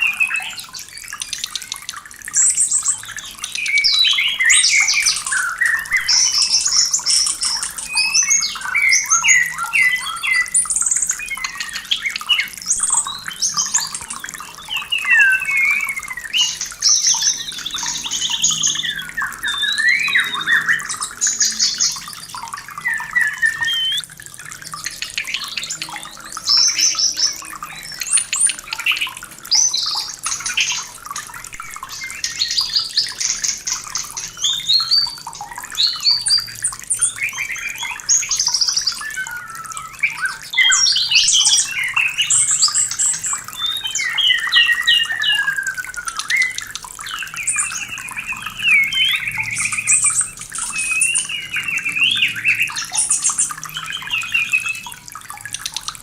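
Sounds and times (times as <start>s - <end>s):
bird singing whistles and trills: 0.0s - 55.6s.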